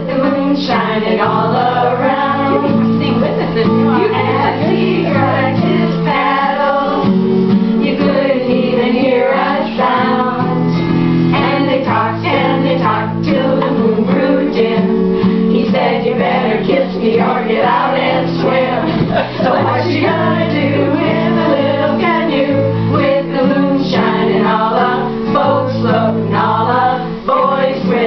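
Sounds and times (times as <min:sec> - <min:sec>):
guitar: 0:00.0 - 0:28.0
women singing together: 0:00.0 - 0:28.0.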